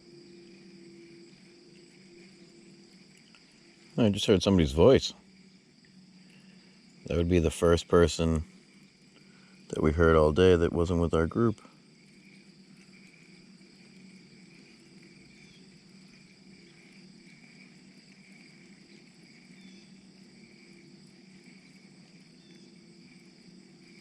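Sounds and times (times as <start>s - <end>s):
insects chirping: 0.0s - 24.0s
low steady hum: 0.0s - 24.0s.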